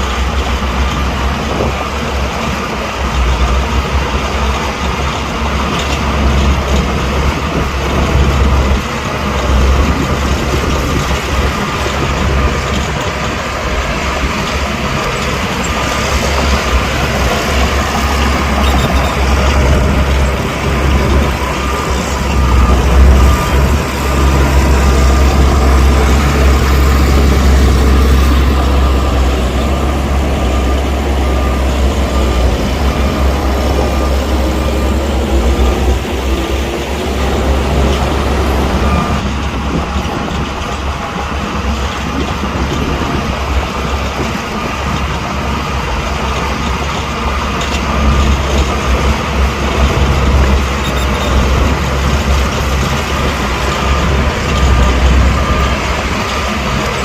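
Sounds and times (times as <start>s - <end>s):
diesel machines rumbling: 0.0s - 57.0s.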